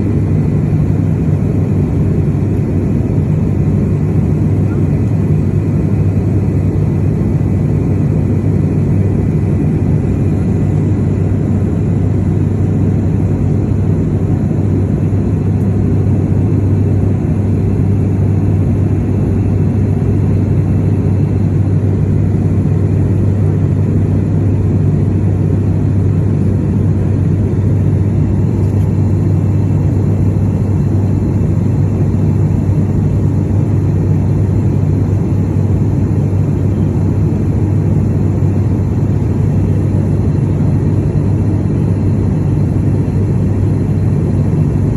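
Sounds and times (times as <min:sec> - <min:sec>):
aircraft cabin drone: 0:00.0 - 0:44.9.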